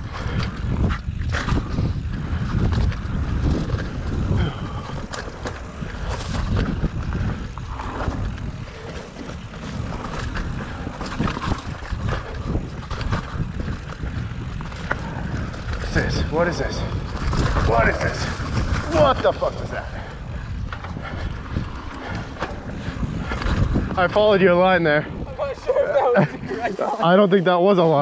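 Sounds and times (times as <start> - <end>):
bike clicks and rattles: 0.0 - 25.2
tyres rumbling over trail: 0.0 - 28.0
wind rushing over microphone: 0.0 - 28.0.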